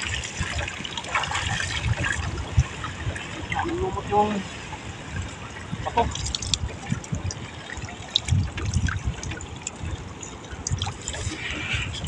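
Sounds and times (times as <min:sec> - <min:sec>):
low sloshing thuds: 0:00.0 - 0:12.0
water trickling and splashing: 0:00.0 - 0:12.0.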